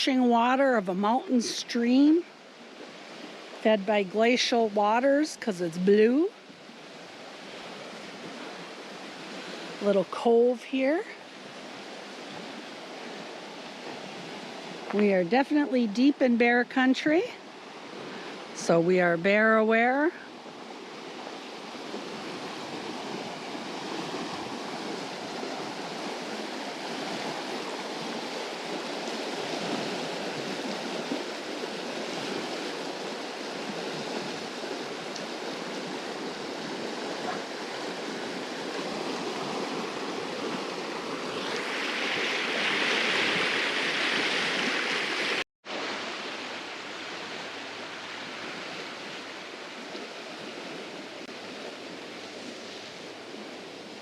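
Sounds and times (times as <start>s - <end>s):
rushing mountain stream: 0.0s - 15.8s, 16.5s - 54.0s.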